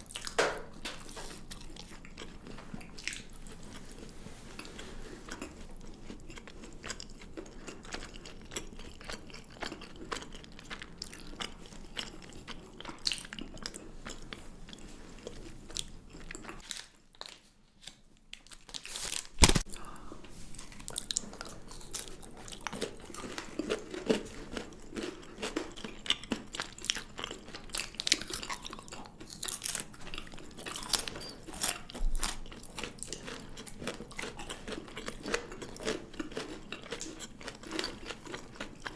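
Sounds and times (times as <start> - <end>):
chocolate crunching: 0.0 - 38.9.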